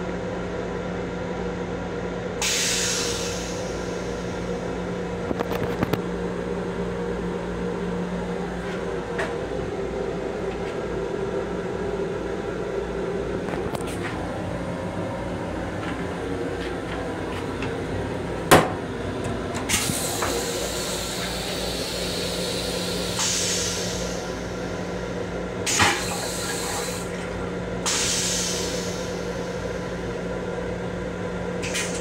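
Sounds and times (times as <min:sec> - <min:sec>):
railcar running hum: 0:00.0 - 0:32.0.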